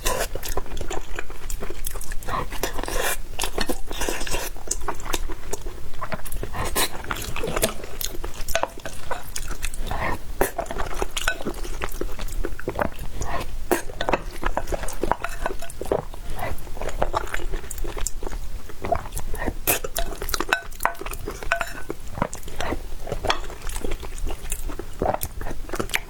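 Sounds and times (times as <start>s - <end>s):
person chewing: 0.0s - 26.0s.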